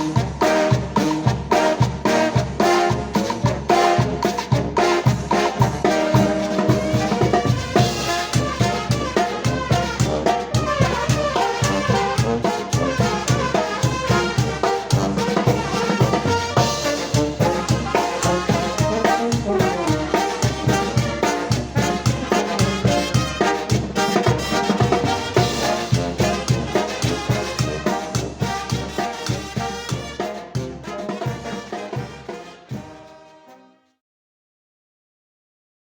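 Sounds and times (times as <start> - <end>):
steady drum beat: 0.0 - 33.0
brass horns: 0.0 - 34.0.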